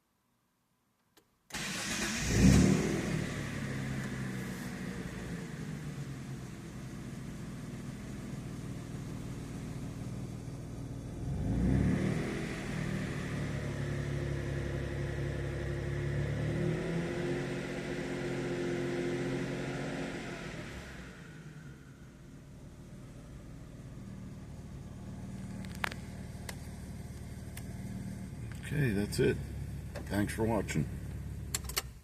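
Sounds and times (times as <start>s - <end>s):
car engine idling and revving: 1.5s - 32.0s.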